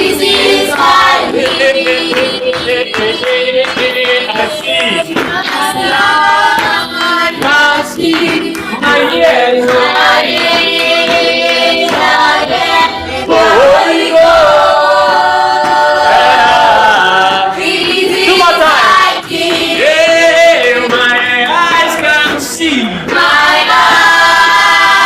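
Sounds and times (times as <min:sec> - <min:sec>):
group singing gospel: 0:00.0 - 0:25.0.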